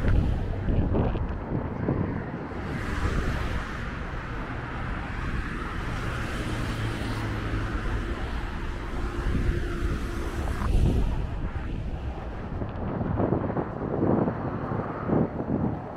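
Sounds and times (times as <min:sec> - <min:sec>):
highway traffic rumble: 0:00.0 - 0:15.9
vehicle engine hum: 0:00.0 - 0:15.9.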